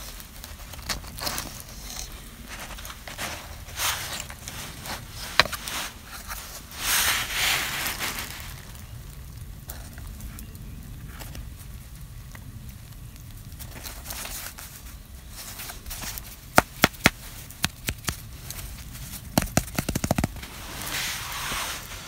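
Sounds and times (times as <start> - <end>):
bread tearing rustle: 0.0 - 11.8, 13.3 - 22.0
crusty bread crackling: 0.0 - 22.0.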